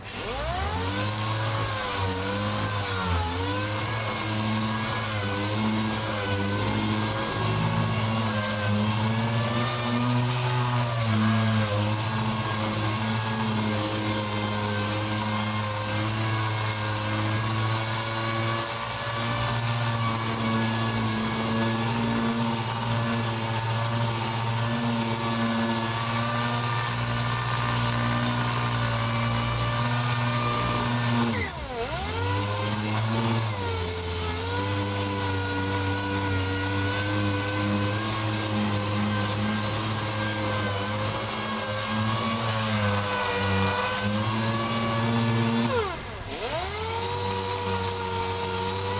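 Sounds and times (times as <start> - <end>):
pneumatic orbital sander whining: 0.0 - 48.9.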